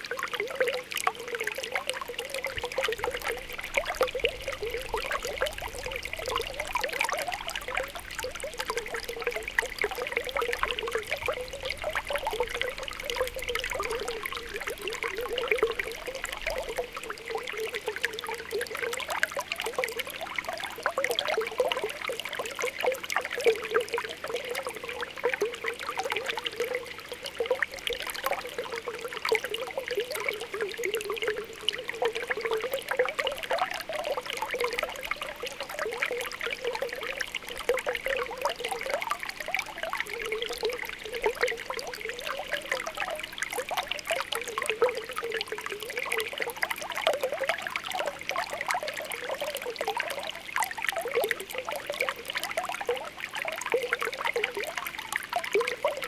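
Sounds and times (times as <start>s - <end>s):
spring water bubbling and popping: 0.0s - 56.0s.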